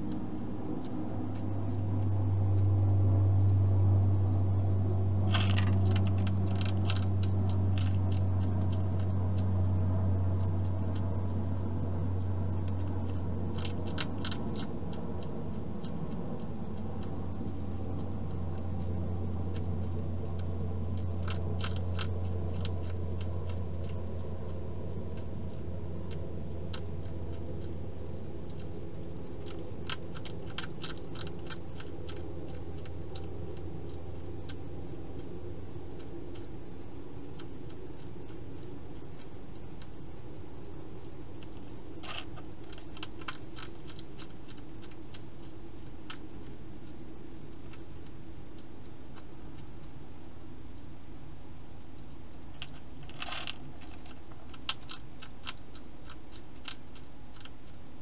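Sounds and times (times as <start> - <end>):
hedgehog crunching dry food: 0.0 - 50.1, 51.8 - 58.0
steady low hum: 0.0 - 58.0.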